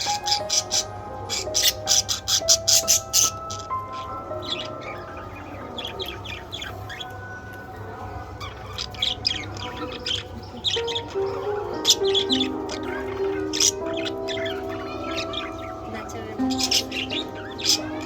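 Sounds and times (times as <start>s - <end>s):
budgerigars chirping: 0.0s - 18.0s
faint background music: 0.0s - 18.0s.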